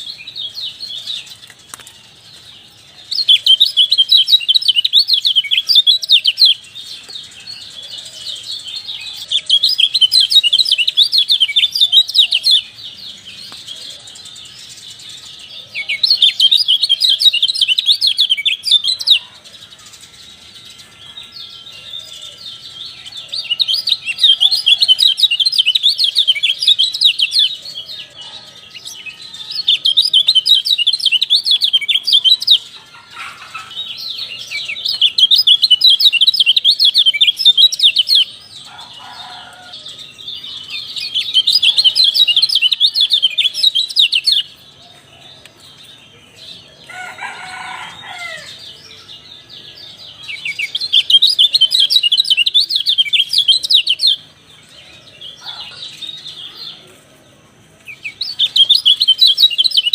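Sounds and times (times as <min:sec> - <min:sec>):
songbird twittering: 0:00.0 - 0:57.0, 0:57.9 - 0:59.9.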